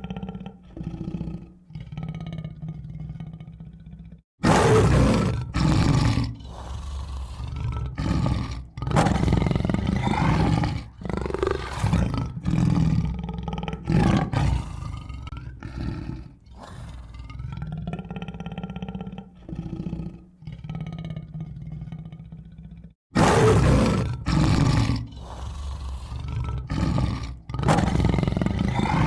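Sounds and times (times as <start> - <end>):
tiger roaring and growling: 0.0 - 29.0.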